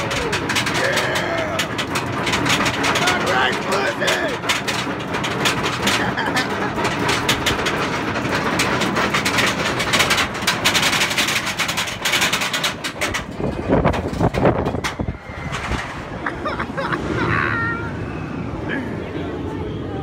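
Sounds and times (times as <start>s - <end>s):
roller coaster rattling on track: 0.0s - 20.0s.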